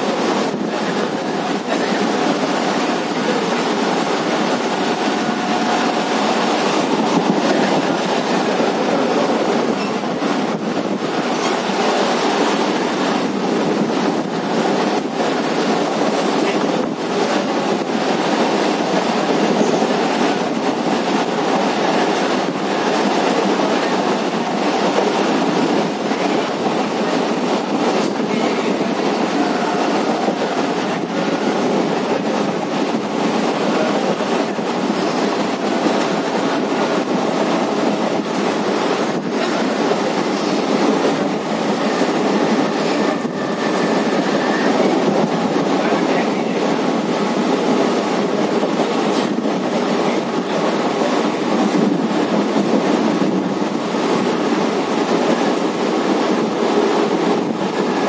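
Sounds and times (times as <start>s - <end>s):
train rumble and rush: 0.0s - 58.0s.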